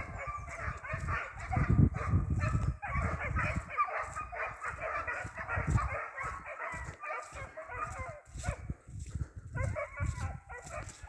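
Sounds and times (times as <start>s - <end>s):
hounds baying and yelping: 0.0s - 11.0s.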